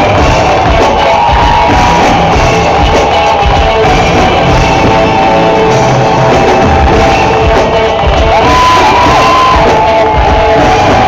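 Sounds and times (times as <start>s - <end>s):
crowd cheering and shouting: 0.0s - 11.0s
loud rock music: 0.0s - 11.0s.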